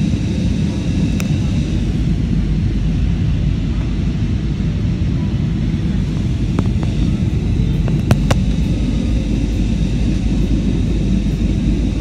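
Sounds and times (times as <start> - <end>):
airplane engines roaring in cabin: 0.0 - 12.0.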